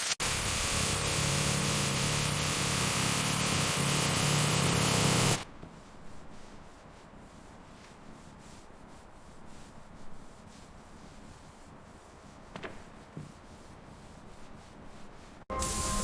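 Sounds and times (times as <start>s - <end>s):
sanding on bare metal: 0.2s - 16.0s.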